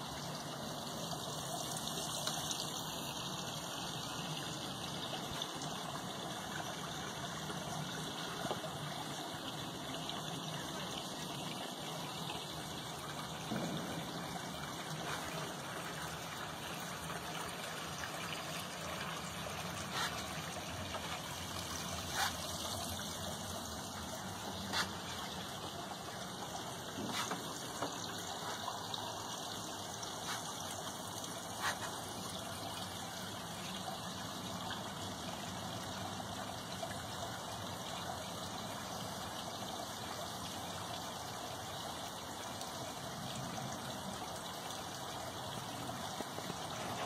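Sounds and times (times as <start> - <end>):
water trickling: 0.0 - 47.0.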